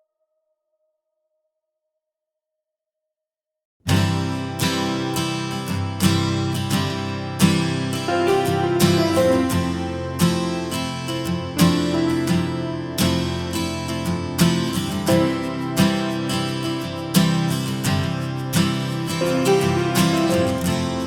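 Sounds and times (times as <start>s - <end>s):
acoustic guitar tune: 3.9s - 21.0s.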